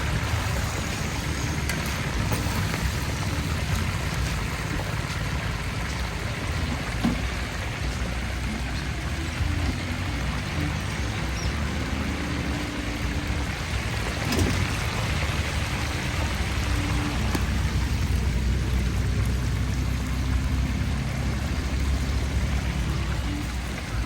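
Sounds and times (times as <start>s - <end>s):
oil sizzling in deep fryer: 0.0s - 24.0s.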